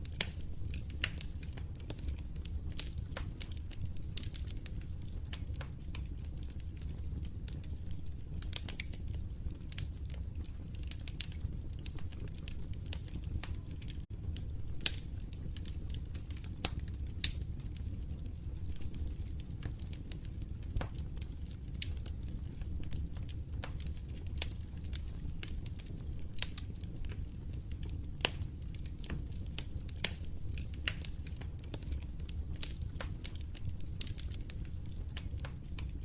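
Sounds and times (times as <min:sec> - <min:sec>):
log fire crackling: 0:00.0 - 0:36.0
low rumble of burning: 0:00.0 - 0:36.0.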